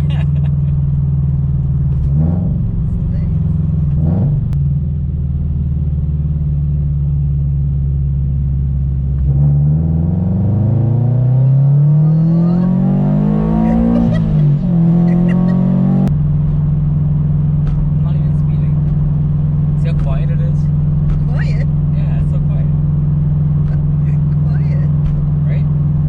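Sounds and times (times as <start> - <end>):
car engine revving: 0.0 - 26.0
exhaust drone: 0.0 - 26.0.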